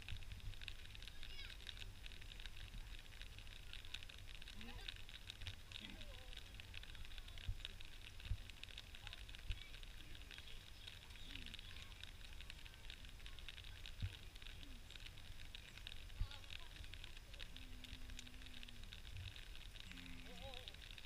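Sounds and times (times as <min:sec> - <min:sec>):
steady high hiss: 0:00.0 - 0:21.0
wind rumble on microphone: 0:00.0 - 0:21.0.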